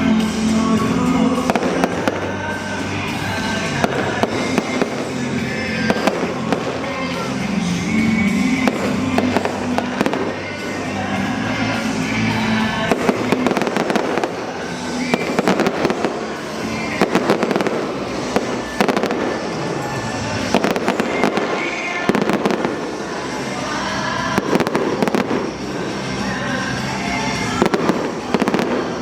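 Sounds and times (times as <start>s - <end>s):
background music: 0.0s - 29.0s
fireworks bangs and crackles: 0.1s - 29.0s.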